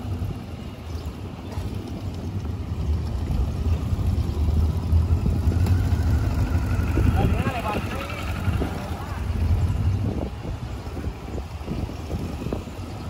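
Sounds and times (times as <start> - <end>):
motorcycle engine rumble: 0.0 - 13.0
wind buffeting on microphone: 0.0 - 13.0.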